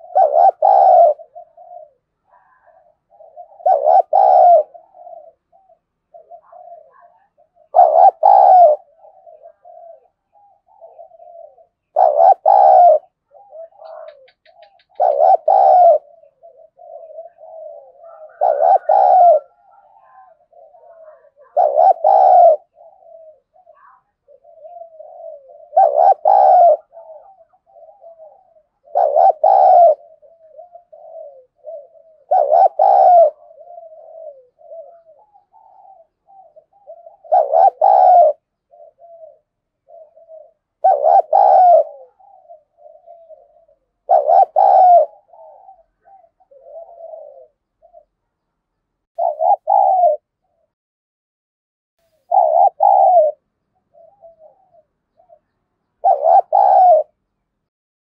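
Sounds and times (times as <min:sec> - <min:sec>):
dove cooing: 0:00.0 - 0:48.4, 0:49.2 - 0:50.8, 0:52.0 - 0:57.2.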